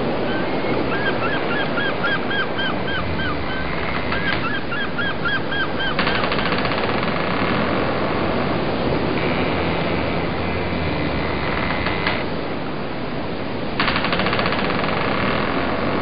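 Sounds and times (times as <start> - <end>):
boat engine running: 0.0 - 5.0, 5.8 - 16.0
water noise: 0.0 - 16.0
wind: 0.0 - 16.0.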